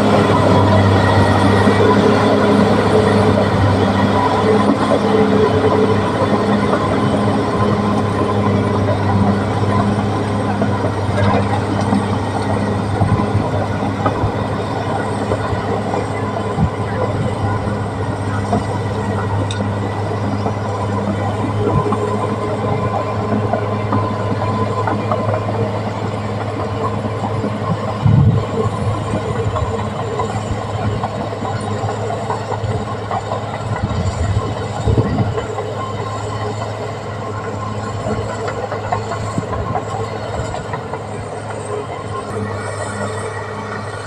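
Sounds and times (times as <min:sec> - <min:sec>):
bulldozer diesel engine running: 0:00.0 - 0:44.0
steel tracks clanking: 0:00.0 - 0:44.0.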